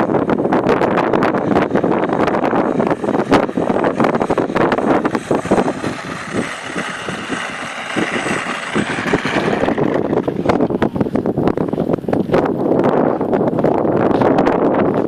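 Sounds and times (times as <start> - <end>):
model plane motor buzzing: 0.0 - 12.6
wind buffeting microphone: 0.0 - 15.0.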